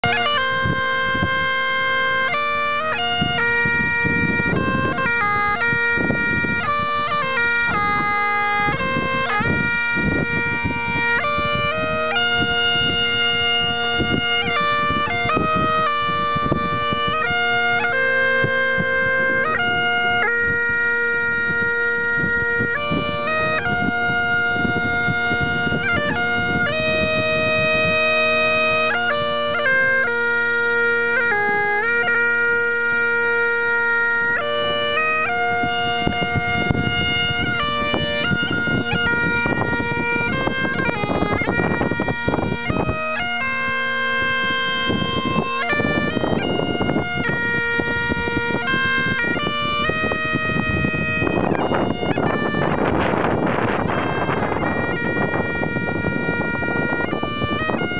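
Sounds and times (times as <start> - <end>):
bagpipes playing a tune: 0.0 - 57.9.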